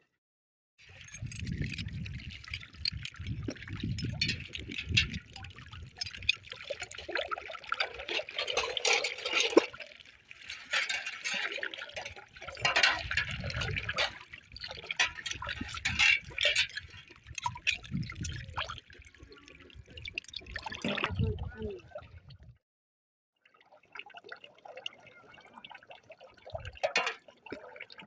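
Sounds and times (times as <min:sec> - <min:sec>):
water sloshing and splashing: 0:00.8 - 0:22.5, 0:25.9 - 0:28.0.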